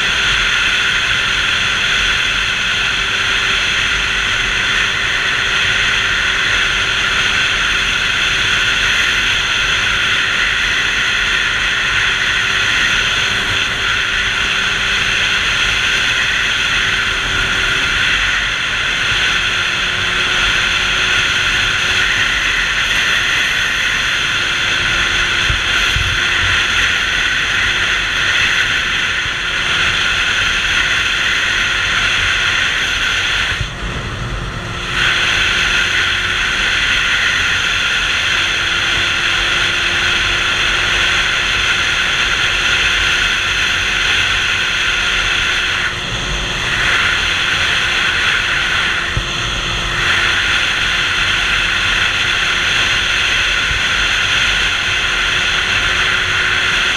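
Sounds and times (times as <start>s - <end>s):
motorcycle engine: 0.0s - 56.9s
wind rush: 0.0s - 56.9s.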